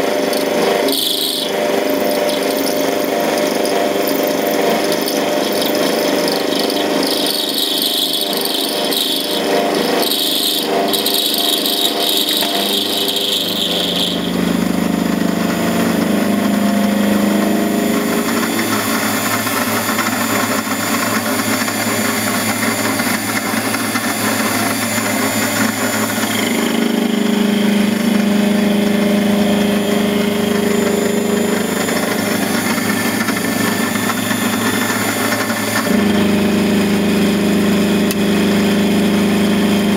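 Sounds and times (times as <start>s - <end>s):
lathe motor and cutting noise: 0.0s - 39.9s
high-pitched cutting squeal: 0.3s - 39.9s.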